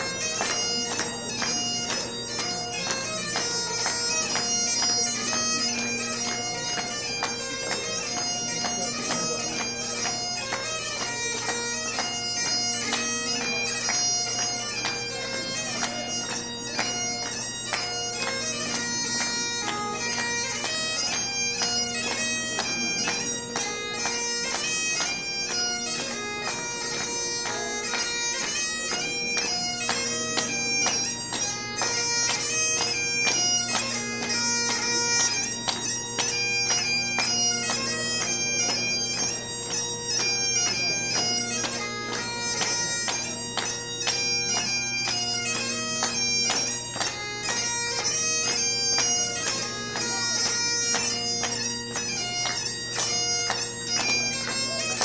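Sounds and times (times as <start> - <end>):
bagpipe band playing: 0.0 - 55.0.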